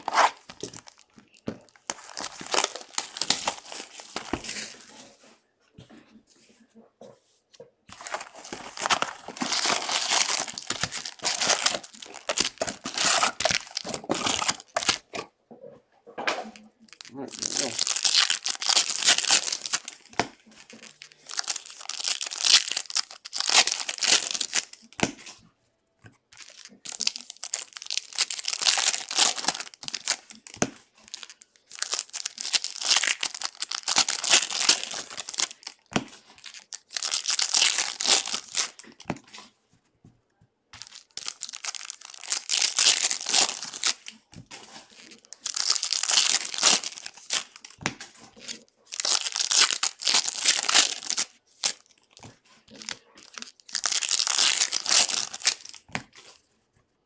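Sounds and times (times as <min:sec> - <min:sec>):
foil wrappers tearing and crinkling: 0:00.0 - 0:05.0, 0:07.9 - 0:15.2, 0:16.9 - 0:25.0, 0:26.4 - 0:39.0, 0:40.8 - 0:47.8, 0:48.4 - 0:55.9.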